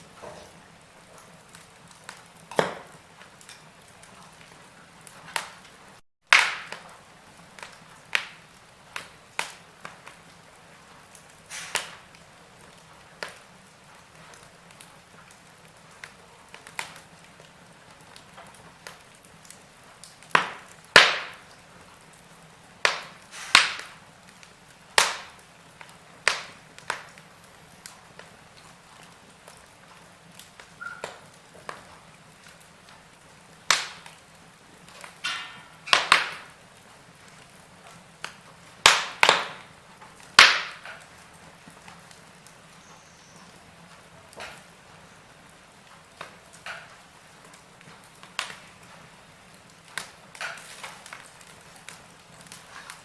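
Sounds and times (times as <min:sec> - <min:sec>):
faint steady hiss: 0:00.0 - 0:53.0
wood fire crackling and popping: 0:00.0 - 0:53.0.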